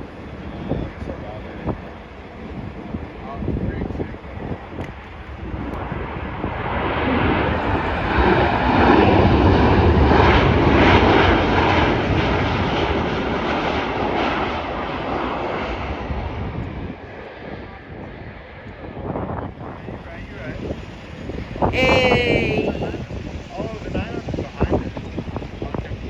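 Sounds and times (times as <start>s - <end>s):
jet airliner passing: 0.0s - 26.0s.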